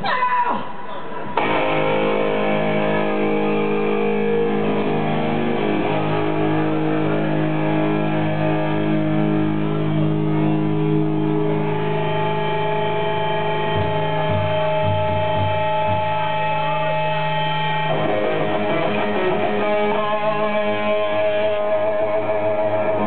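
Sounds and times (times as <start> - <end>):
heavy metal guitar and bass chords: 1.4 - 23.0.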